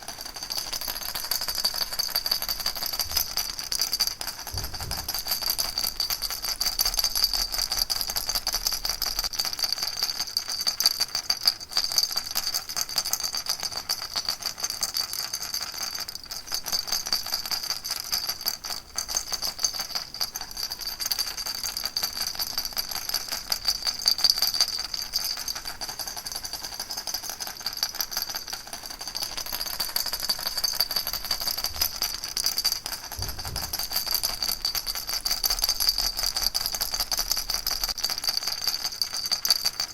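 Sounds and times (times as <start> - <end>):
baby rattle shaken: 0.0 - 12.4, 16.2 - 39.9.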